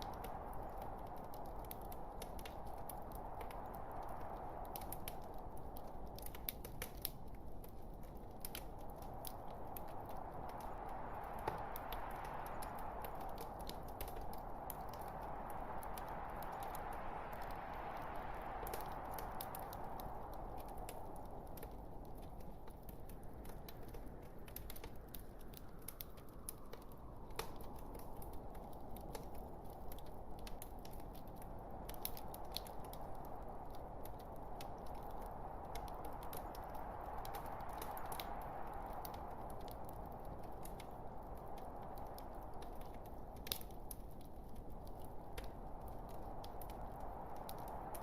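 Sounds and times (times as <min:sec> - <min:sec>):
low rush of flames: 0:00.0 - 0:48.0.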